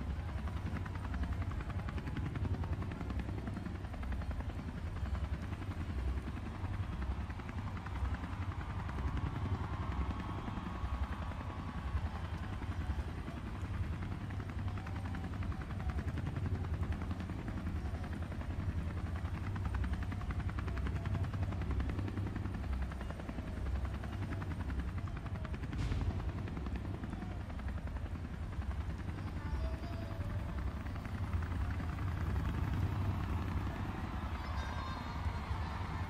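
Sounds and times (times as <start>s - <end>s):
helicopter rotor chop: 0.0s - 36.0s.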